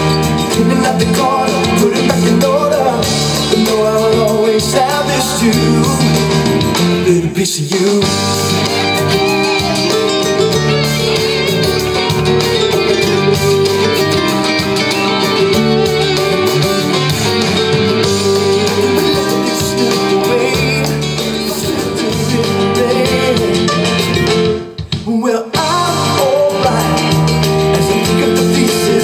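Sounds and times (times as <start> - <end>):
pop-rock song with guitar: 0.0 - 29.0
steady drum beat: 0.0 - 29.0.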